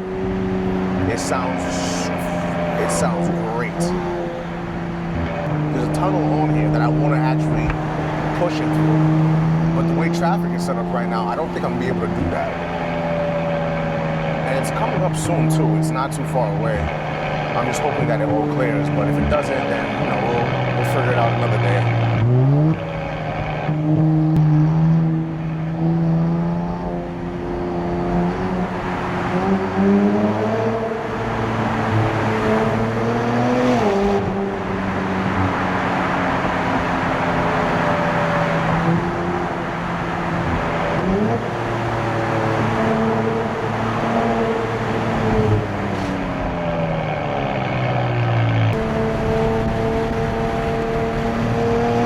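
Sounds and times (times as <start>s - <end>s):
car engine accelerating: 0.0s - 52.0s.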